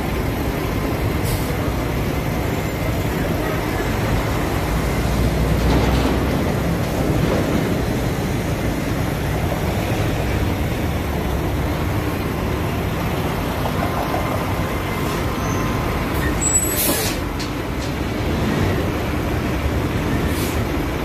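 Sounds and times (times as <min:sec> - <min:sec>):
diesel truck idling: 0:00.0 - 0:21.0
street traffic: 0:00.0 - 0:21.0
streetcar moving: 0:00.0 - 0:21.0.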